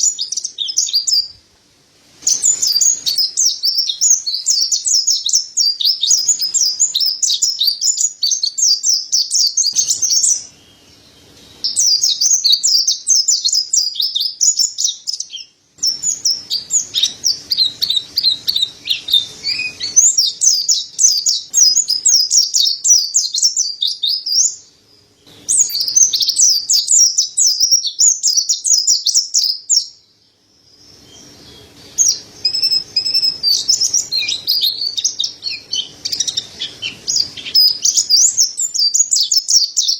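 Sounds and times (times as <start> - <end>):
bird twittering chatter: 0.0 - 1.4, 2.2 - 30.0, 30.8 - 39.9.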